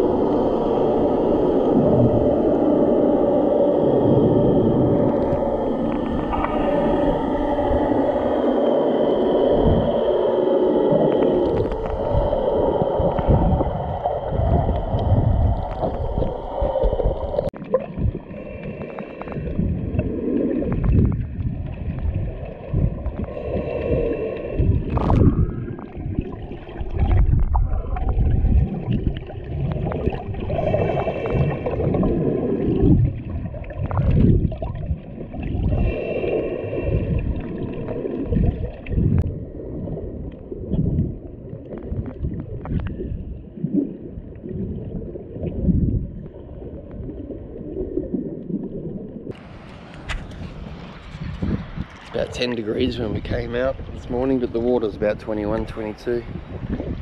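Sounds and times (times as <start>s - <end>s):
muffled underwater rushing: 0.0s - 57.0s.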